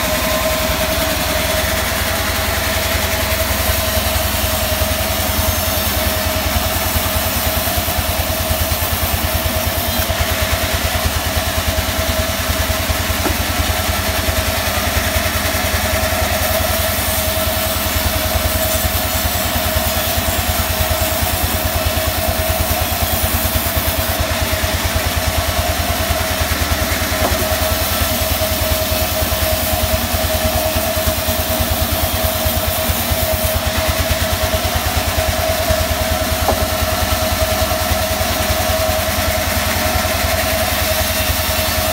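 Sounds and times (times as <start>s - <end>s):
band saw whining: 0.0s - 41.9s.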